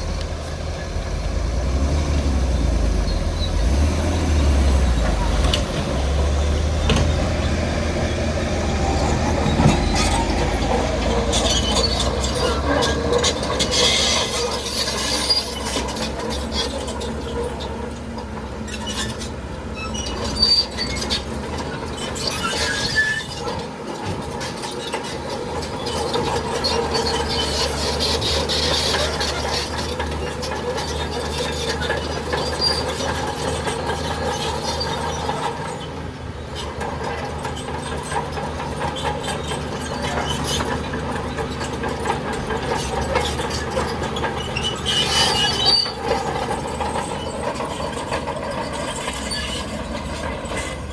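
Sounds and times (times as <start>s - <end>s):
diesel engine running: 0.0s - 50.9s
steel tracks clanking and squealing: 0.0s - 50.9s.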